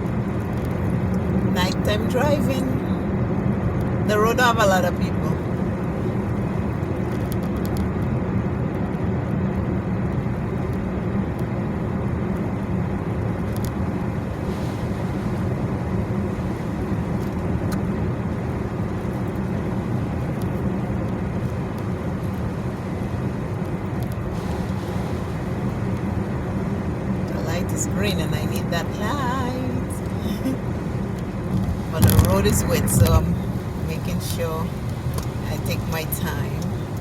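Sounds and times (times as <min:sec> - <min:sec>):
car road noise from inside cabin: 0:00.0 - 0:37.0.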